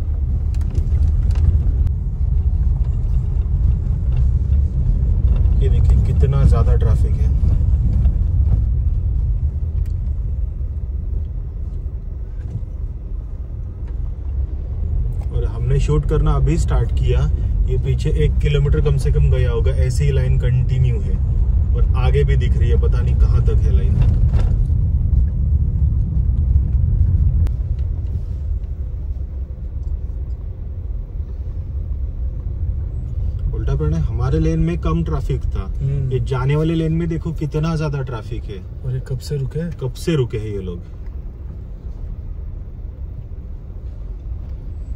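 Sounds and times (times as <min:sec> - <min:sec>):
car low rumble: 0:00.0 - 0:44.9.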